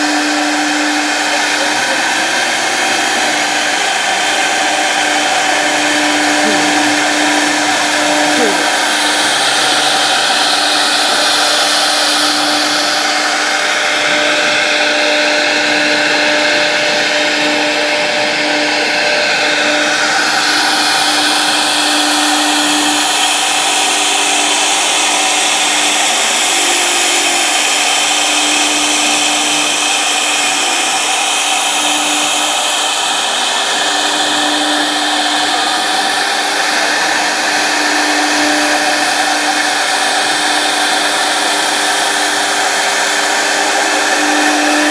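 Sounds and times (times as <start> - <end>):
router spindle humming and hissing: 0.0 - 44.9.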